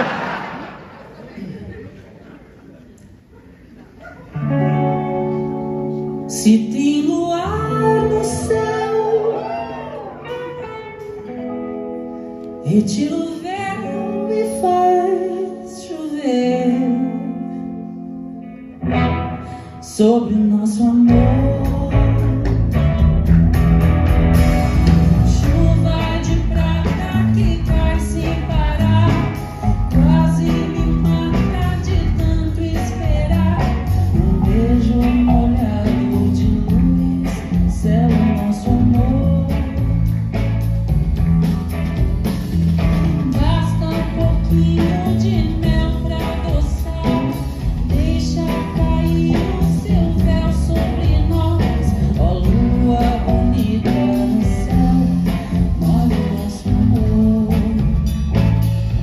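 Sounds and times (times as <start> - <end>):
live band playing pop song: 4.2 - 59.0
person singing: 4.4 - 23.4, 24.0 - 41.8, 42.8 - 59.0.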